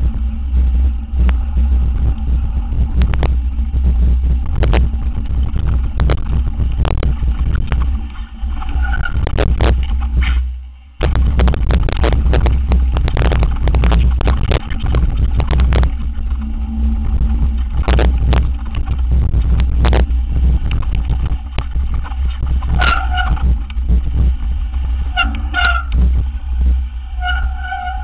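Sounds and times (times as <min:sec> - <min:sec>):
bike rattling over rocks: 0:00.0 - 0:27.4
wind buffeting microphone: 0:00.0 - 0:28.0.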